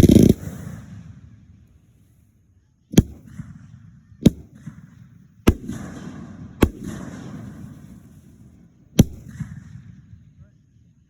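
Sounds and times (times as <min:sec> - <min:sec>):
fireworks bangs: 0:00.0 - 0:02.2, 0:02.9 - 0:10.4
fireworks crackling and rumble: 0:00.0 - 0:11.0.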